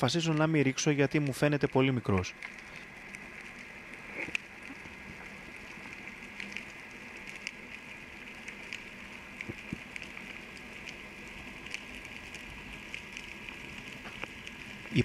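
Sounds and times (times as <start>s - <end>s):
faint clicks and crackles: 0.0s - 15.0s.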